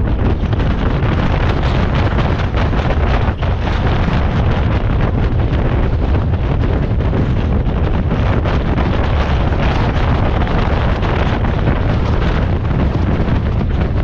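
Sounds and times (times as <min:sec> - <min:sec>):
car driving rumble: 0:00.0 - 0:14.0
wind rushing over microphone: 0:00.0 - 0:14.0.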